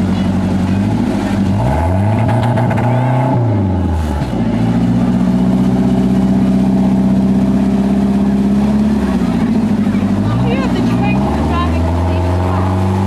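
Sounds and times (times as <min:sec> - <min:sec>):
boat engine revving: 0:00.0 - 0:13.0.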